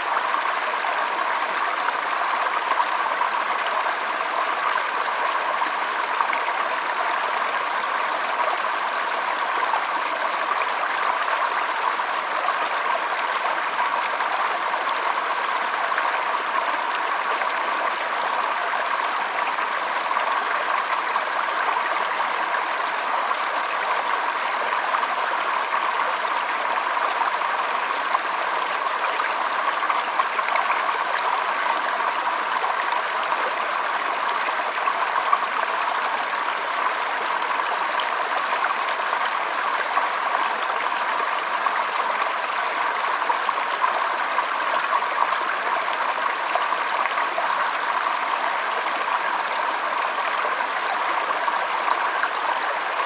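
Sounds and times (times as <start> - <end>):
stream babbling over stones: 0.0 - 53.0.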